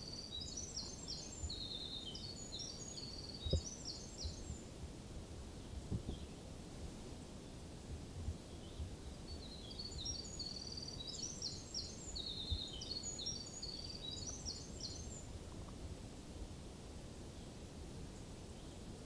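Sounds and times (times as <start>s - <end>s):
songbird singing: 0.0s - 4.8s, 5.5s - 6.5s, 7.3s - 16.4s, 17.2s - 19.0s.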